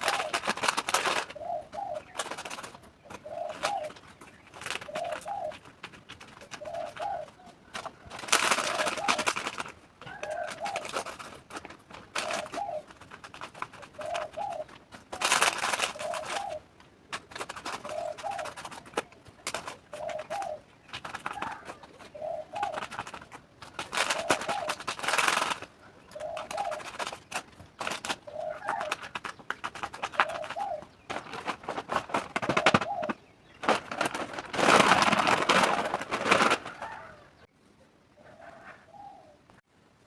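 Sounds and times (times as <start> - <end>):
rustling noise: 0.0 - 37.5
bird cooing: 0.0 - 39.5.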